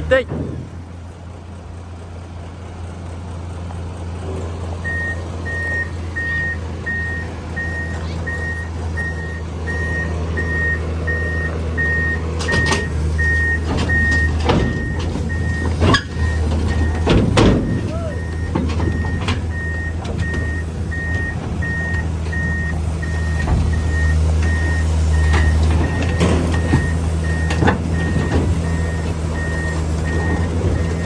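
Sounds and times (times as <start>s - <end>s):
excavator diesel engine running: 0.0s - 31.0s
travel alarm beeping: 4.8s - 31.0s.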